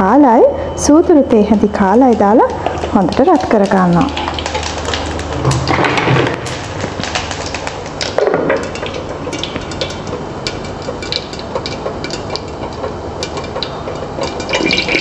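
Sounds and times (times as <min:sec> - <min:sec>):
seeds sizzling and crackling in oil: 0:01.6 - 0:15.0.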